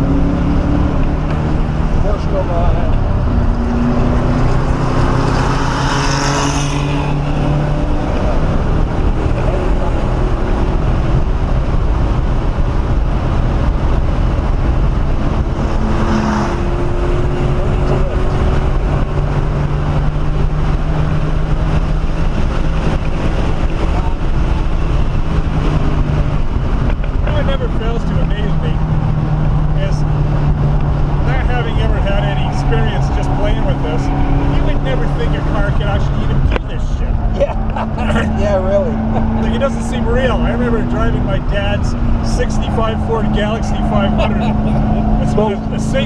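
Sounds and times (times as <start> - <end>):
car engine racing: 0.0 - 46.0
wind and road noise: 0.0 - 46.0.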